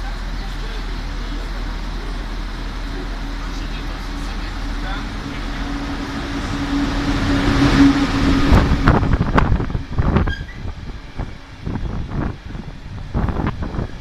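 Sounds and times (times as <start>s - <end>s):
electric locomotive hum: 0.0s - 14.0s.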